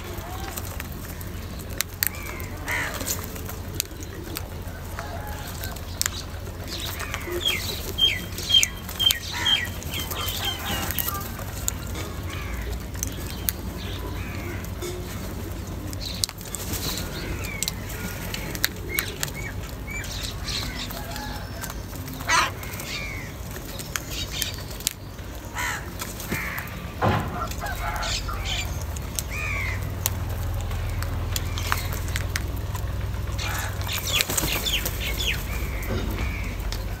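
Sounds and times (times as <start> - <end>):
beaks pecking: 0.0 - 37.0
crows calling: 0.0 - 37.0
wings flapping: 0.0 - 37.0.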